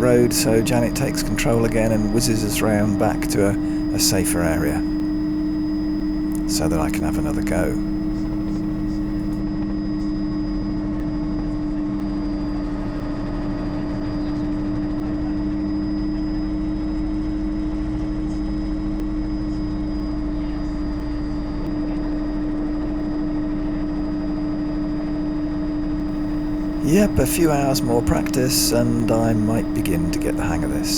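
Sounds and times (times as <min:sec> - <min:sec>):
helicopter rotor and turbine drone: 0:00.0 - 0:17.8, 0:22.1 - 0:30.9.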